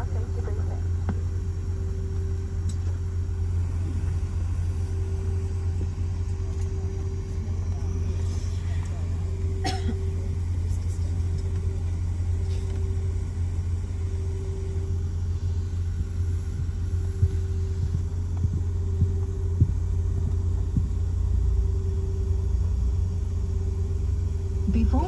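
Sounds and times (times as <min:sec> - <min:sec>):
airplane cabin rumble and hum: 0:00.0 - 0:25.0
higher pitched hum: 0:00.0 - 0:25.0.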